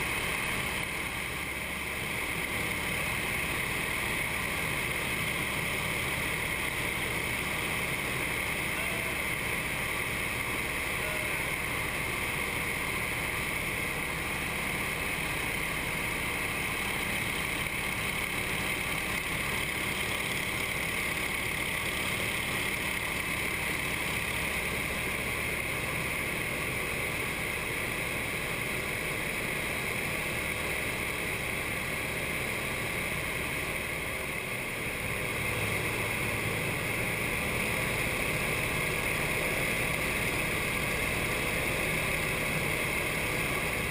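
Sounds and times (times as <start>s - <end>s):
radial engine and propeller drone: 0.0s - 43.9s.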